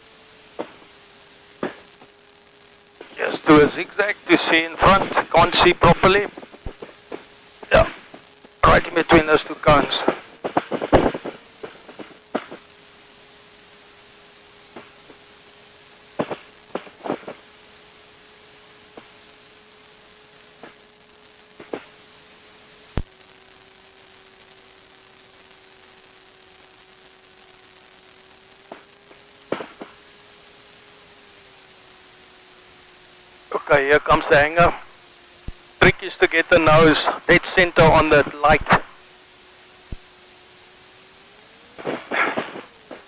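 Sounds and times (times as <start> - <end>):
intercom hum with hiss: 0.0 - 43.0.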